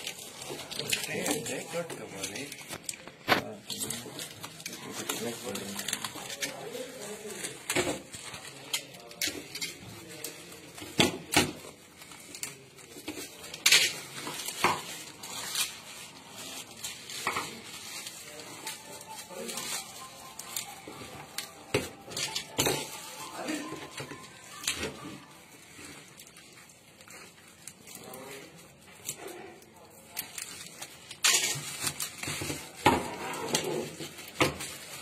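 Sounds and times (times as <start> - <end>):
plastic wrap crinkling and tearing: 0.0 - 35.0.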